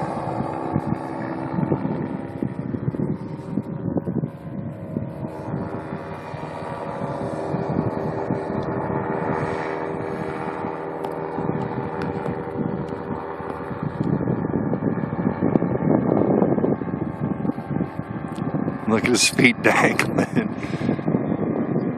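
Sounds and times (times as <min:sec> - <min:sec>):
paramotor engine running: 0:00.0 - 0:21.6
wind buffeting microphone: 0:00.0 - 0:21.9.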